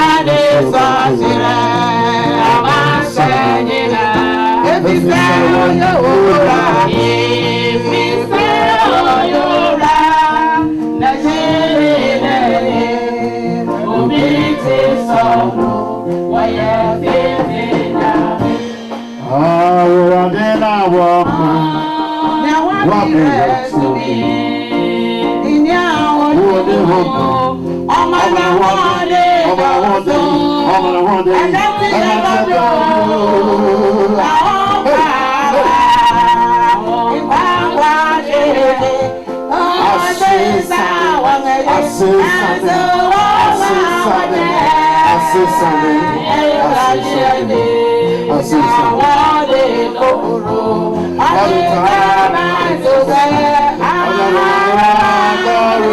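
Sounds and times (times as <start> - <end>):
instrumental accompaniment: 0.0 - 55.9
voices singing: 0.0 - 55.9.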